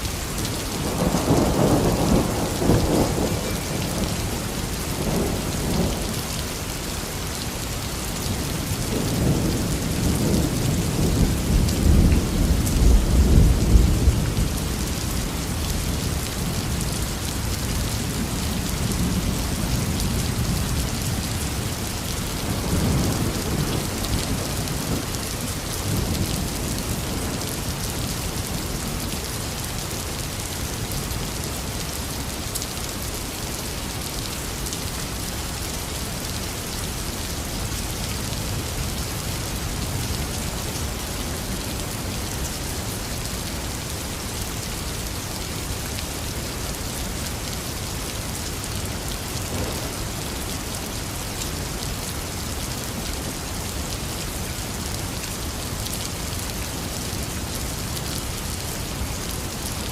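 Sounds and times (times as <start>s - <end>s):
intense rain falling: 0.0s - 59.9s.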